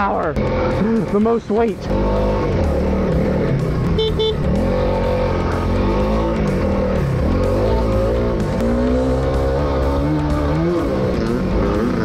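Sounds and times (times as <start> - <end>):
background music with electric guitar: 0.0 - 12.0
dirt bike engines revving: 0.0 - 12.0.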